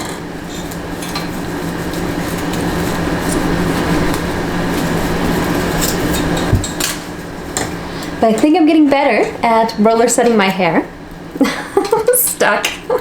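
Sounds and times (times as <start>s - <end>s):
small fan whirring: 0.0s - 13.0s.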